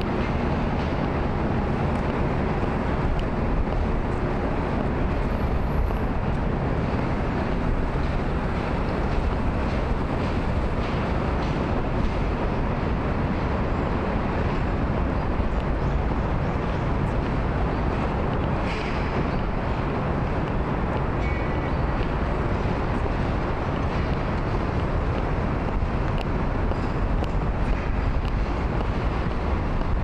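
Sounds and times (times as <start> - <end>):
road traffic rushing: 0.0 - 30.0.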